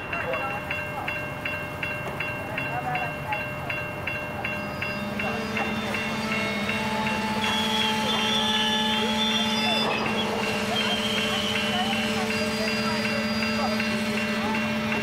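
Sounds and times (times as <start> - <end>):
level crossing bell ringing: 0.0 - 15.0
train wagons rumbling on rails: 0.0 - 15.0.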